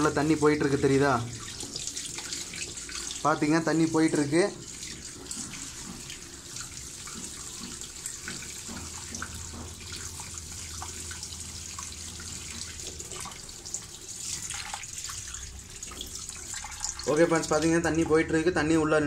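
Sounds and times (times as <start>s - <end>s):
water running from a hose into a tub: 0.0s - 19.0s.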